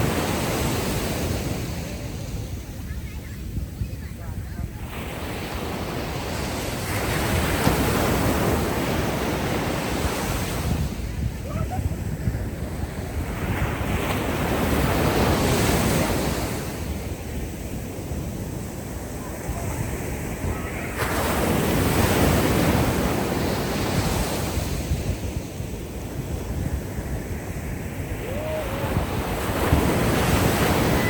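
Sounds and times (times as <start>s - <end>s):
ocean waves breaking on a beach: 0.0s - 31.0s
wind rumble on microphone: 0.0s - 31.0s.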